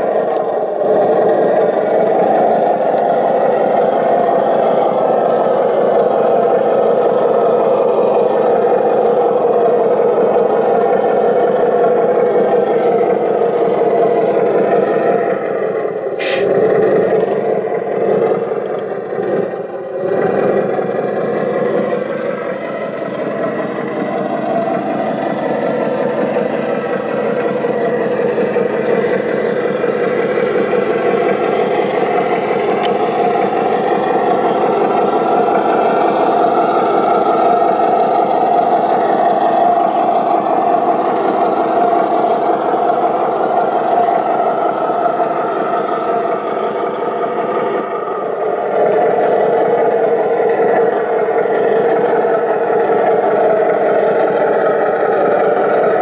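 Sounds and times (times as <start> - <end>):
model vehicle motor running: 0.0 - 56.0.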